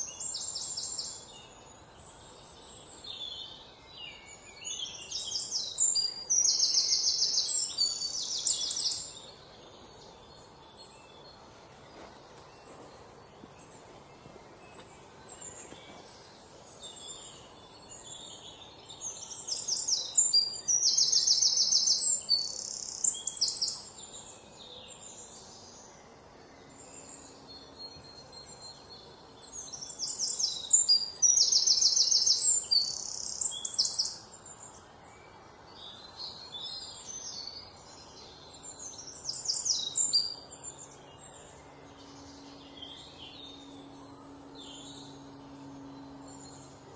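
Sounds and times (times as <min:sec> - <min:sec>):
bird song with fast trills: 0:00.0 - 0:46.9
quiet bird chirps: 0:00.0 - 0:46.9.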